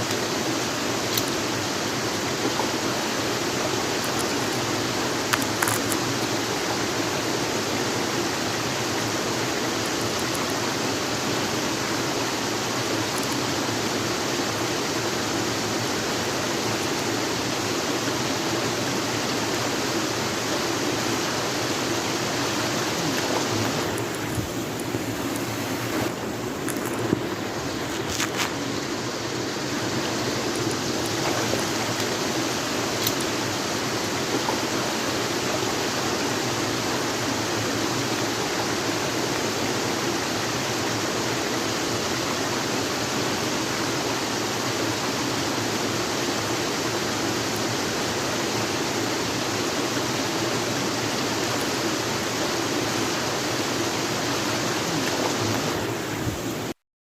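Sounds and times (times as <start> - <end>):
river water rushing: 0.0 - 56.8.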